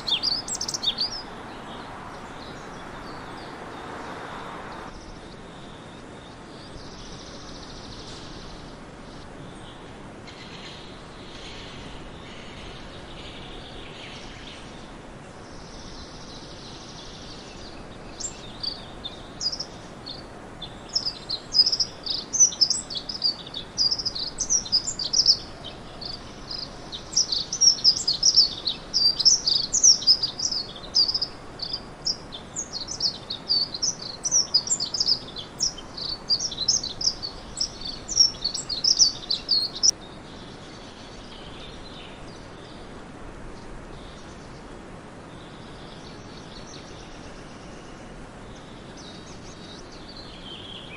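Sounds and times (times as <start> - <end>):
songbird chirping: 0.0 - 42.9
background hiss: 0.0 - 50.9.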